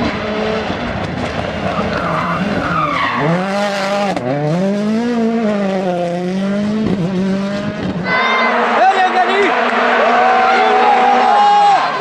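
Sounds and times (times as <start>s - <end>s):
rally car engine revving: 0.0s - 11.3s.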